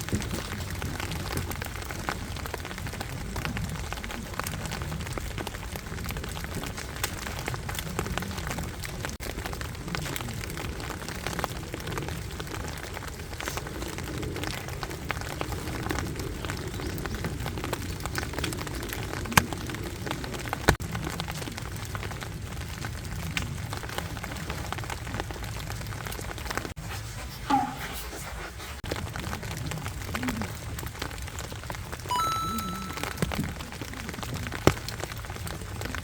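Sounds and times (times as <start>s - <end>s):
rain pattering on a tent: 0.0s - 26.9s, 28.8s - 32.4s, 33.1s - 36.0s.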